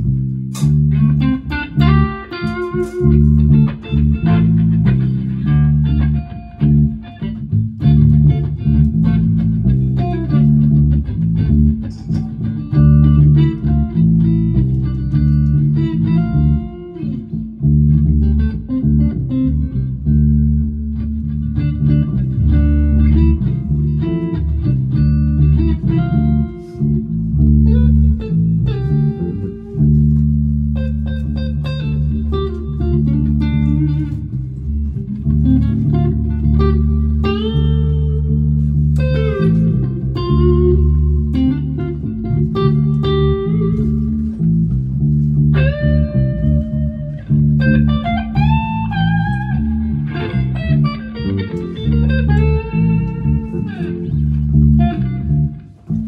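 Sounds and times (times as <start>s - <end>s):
electric bass guitar: 0.0s - 56.0s
electric guitar: 0.0s - 56.0s.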